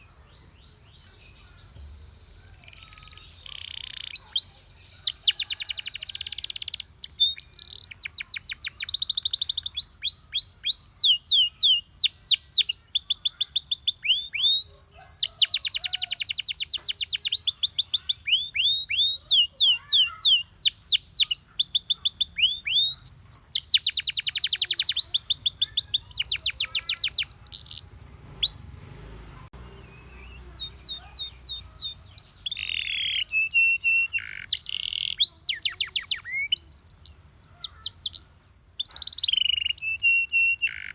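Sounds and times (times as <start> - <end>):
canary singing trills and chirps: 0.0 - 40.9.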